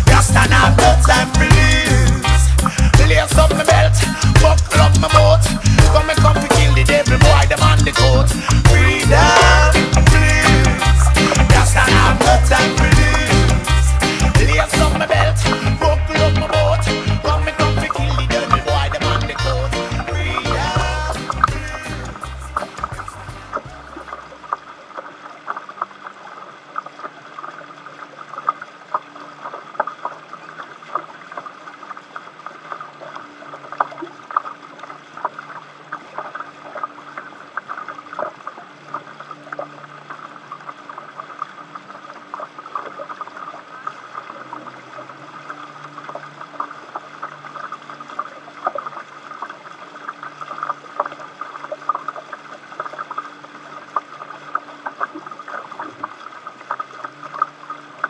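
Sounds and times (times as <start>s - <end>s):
water lapping against hulls: 0.0s - 10.0s, 17.7s - 58.0s.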